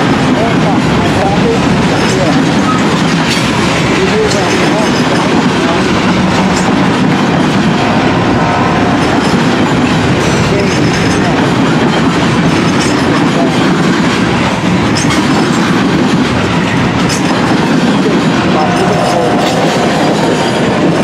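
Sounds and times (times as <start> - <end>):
wheels clacking over rail joints: 0.0 - 8.2, 8.8 - 21.0
steel wheels rumbling on rail: 0.0 - 21.0.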